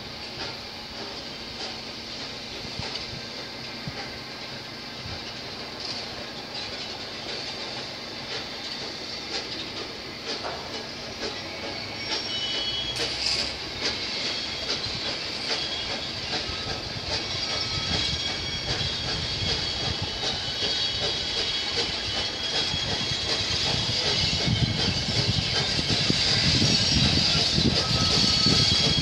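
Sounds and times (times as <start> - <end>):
steam locomotive exhaust: 0.0 - 29.0
wheels rumbling on rails: 0.0 - 29.0.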